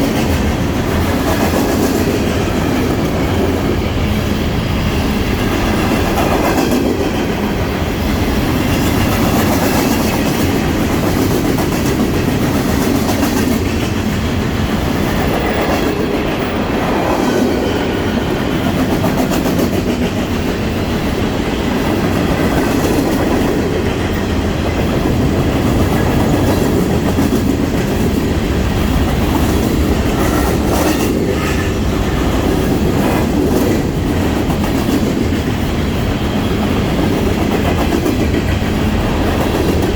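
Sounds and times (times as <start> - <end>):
freight train wheels clacking: 0.0 - 39.9.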